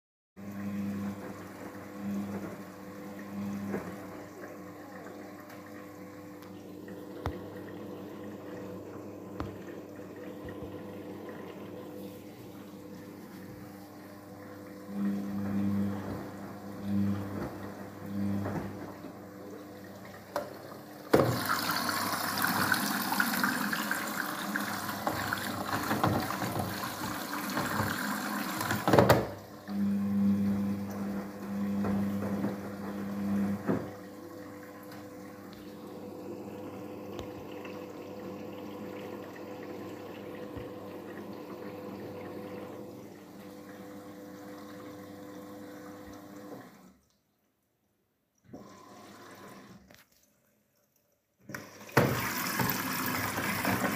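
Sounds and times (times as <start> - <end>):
washing machine motor hum: 0.4 - 47.0, 48.5 - 50.0, 51.4 - 53.9
water sloshing in washing machine: 0.4 - 47.4, 48.5 - 53.9.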